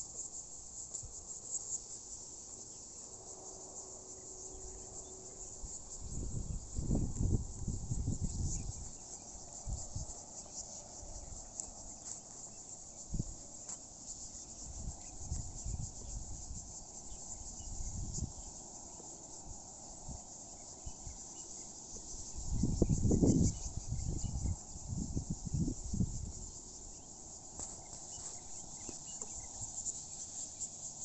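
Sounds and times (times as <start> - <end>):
insects shrilling: 0.0 - 31.0.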